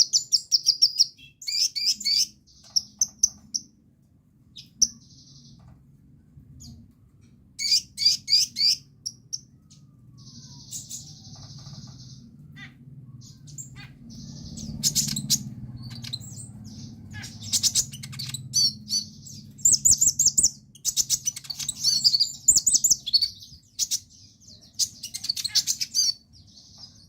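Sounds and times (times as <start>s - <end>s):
sunbird chirping and trilling: 0.0s - 3.8s, 4.5s - 5.8s, 7.6s - 27.0s
faint low hum: 0.0s - 27.0s.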